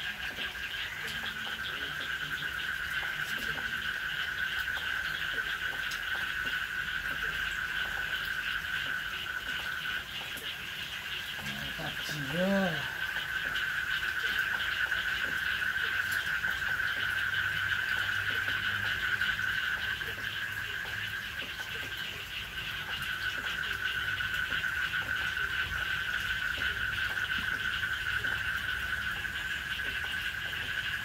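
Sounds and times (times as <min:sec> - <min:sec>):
frogs trilling: 0:00.0 - 0:31.0.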